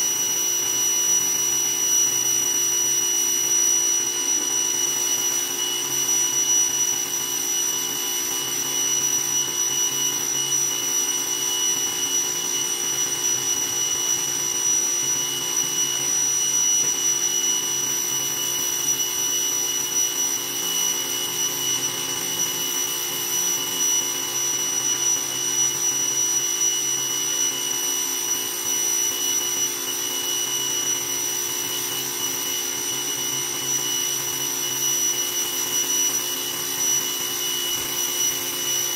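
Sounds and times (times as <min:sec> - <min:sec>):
pressure washer motor whine: 0:00.0 - 0:38.9.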